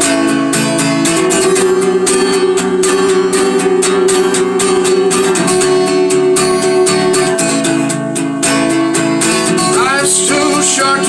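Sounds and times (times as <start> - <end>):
acoustic guitar strummed: 0.0 - 11.0.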